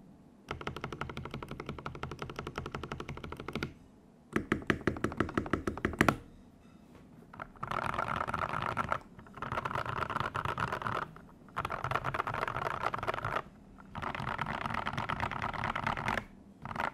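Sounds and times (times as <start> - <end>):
mechanical keyboard typing: 0.5 - 3.8, 4.4 - 6.2, 7.3 - 16.9.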